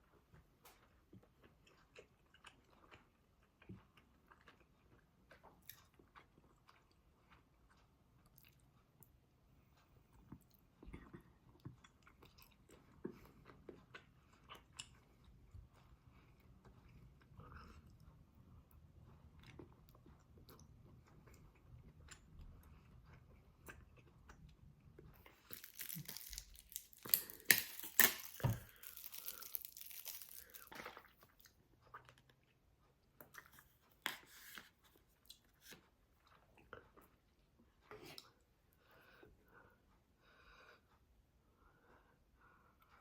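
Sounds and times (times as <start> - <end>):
crunching and chewing crisp food: 0.0 - 39.7.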